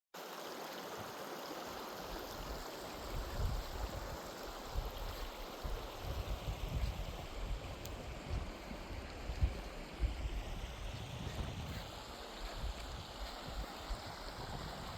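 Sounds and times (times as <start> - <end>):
running water: 0.2 - 14.9
wind buffeting microphone: 2.4 - 14.9.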